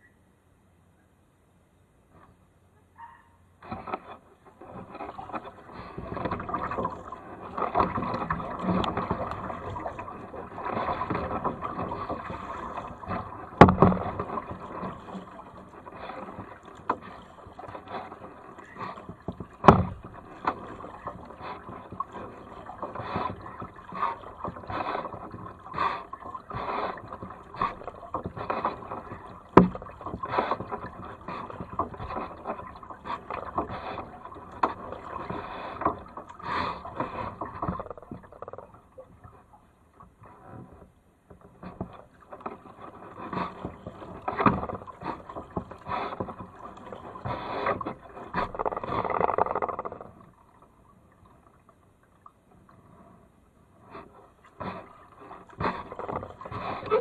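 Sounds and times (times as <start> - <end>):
kayak paddle splashing in water: 3.6 - 52.8, 53.7 - 57.0.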